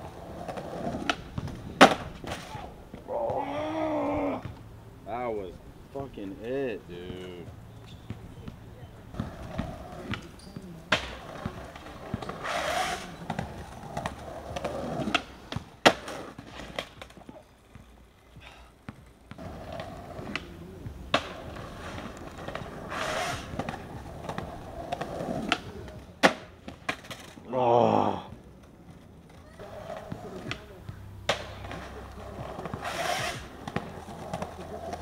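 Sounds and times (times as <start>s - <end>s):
skateboard clacks: 0.0s - 4.6s, 6.3s - 27.5s, 28.3s - 35.0s
skateboard wheels rolling on concrete: 0.0s - 35.0s.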